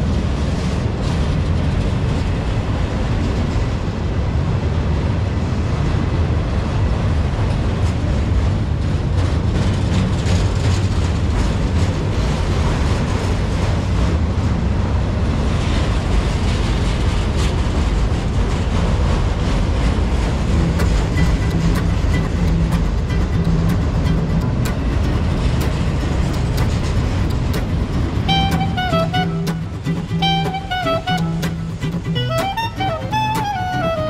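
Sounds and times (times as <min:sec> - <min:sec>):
clicks and clanks of train cars: 0:00.0 - 0:33.8
freight train wheels rumbling: 0:00.0 - 0:34.0.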